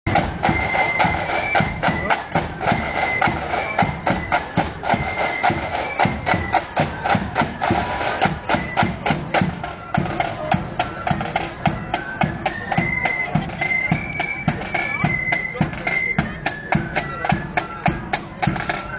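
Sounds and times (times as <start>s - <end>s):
high flute melody: 0.1s - 18.9s.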